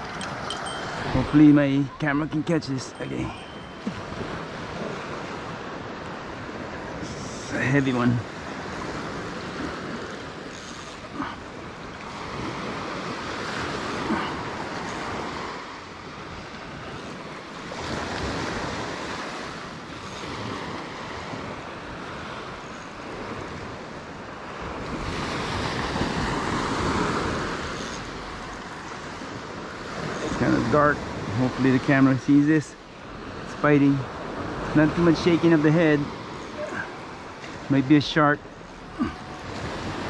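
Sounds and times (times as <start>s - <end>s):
ocean surf washing ashore: 0.0s - 40.0s.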